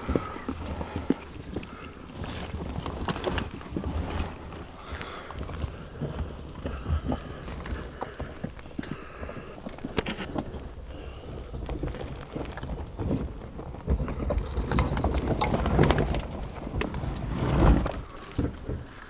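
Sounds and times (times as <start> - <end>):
footsteps on rubble: 0.0 - 19.0.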